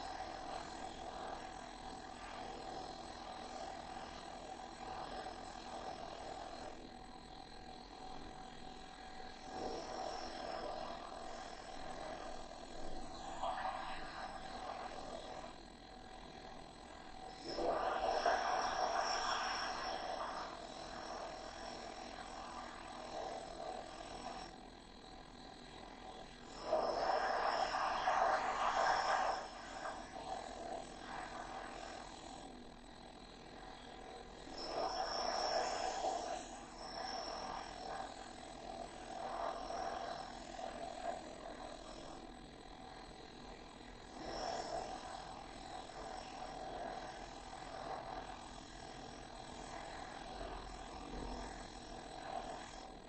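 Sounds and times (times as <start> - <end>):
faint high whine: 0.0 - 53.0
steady fan noise: 0.0 - 53.0.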